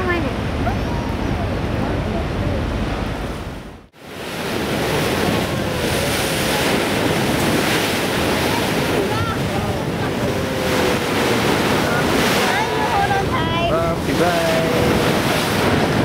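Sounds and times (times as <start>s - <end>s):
water: 0.0s - 16.0s
wind on microphone: 0.0s - 16.0s.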